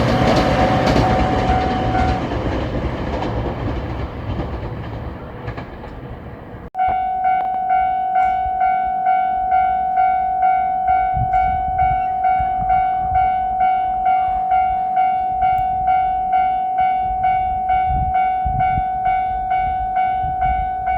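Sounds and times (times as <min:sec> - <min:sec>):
level crossing warning bell ringing: 0:00.0 - 0:03.3, 0:06.8 - 0:20.9
passing train rumble: 0:00.0 - 0:20.9.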